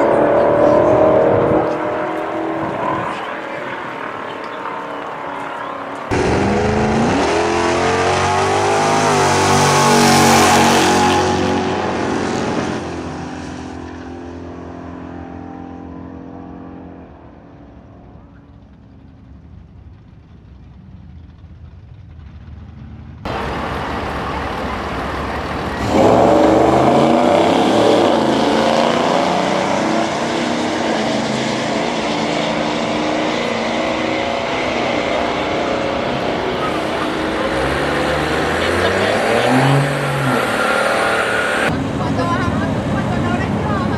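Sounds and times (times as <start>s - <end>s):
drag racing car engines accelerating: 0.0s - 43.9s.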